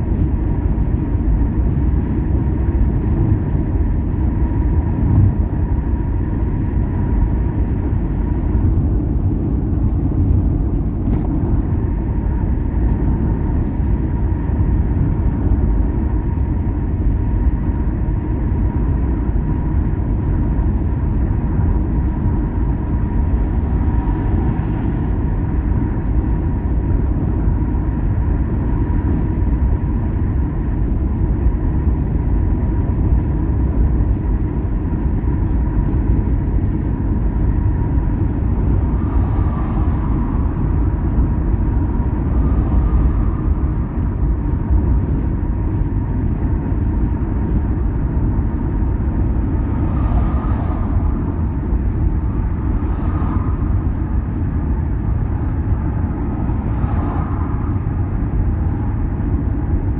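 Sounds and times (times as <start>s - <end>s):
car driving on highway: 0.0s - 59.9s
faint steady whine: 0.0s - 59.9s.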